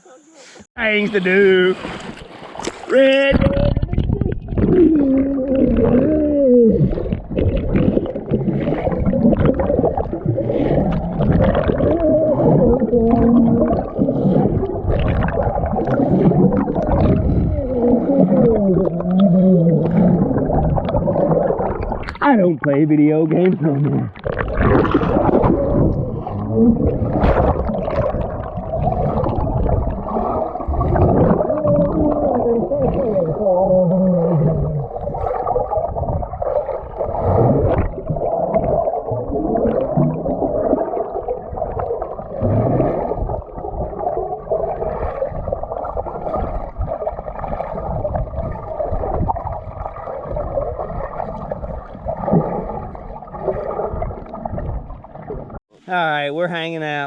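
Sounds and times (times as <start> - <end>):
churning water underwater: 0.0 - 57.0.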